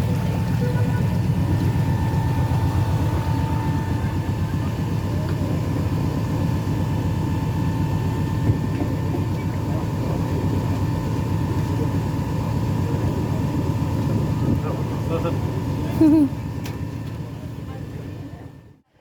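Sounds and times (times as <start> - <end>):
boat motor rumbling: 0.0 - 18.8
faint steady whine: 0.0 - 18.8.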